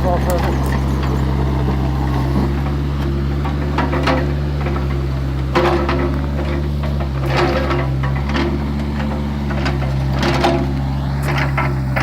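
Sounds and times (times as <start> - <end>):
excavator engine running: 0.0 - 12.0
metal clanks and knocks: 0.0 - 12.0.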